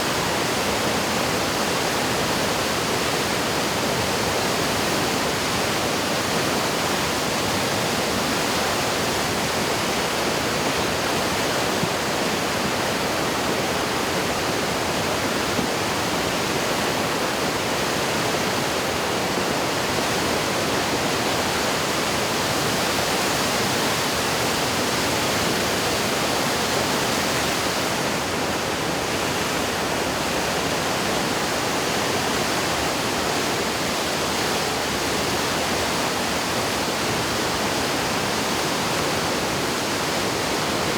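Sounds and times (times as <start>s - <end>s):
flooded river rushing: 0.0s - 40.9s.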